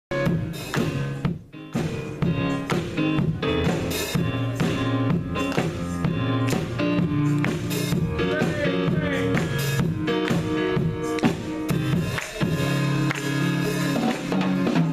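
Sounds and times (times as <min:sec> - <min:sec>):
drum kit beat: 0:00.1 - 0:14.9
gospel band music: 0:00.1 - 0:14.9.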